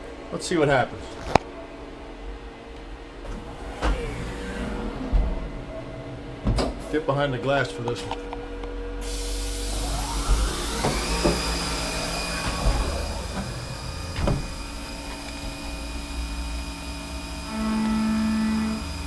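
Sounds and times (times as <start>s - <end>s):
machine hum: 0.0s - 19.0s
machine spindle whine: 1.8s - 19.0s.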